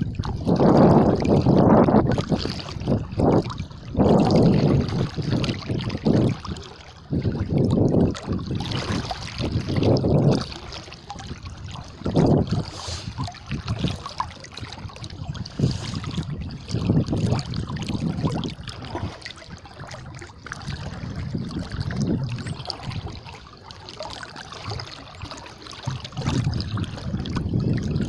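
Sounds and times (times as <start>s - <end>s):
wading through sloshing water: 0.0s - 28.0s.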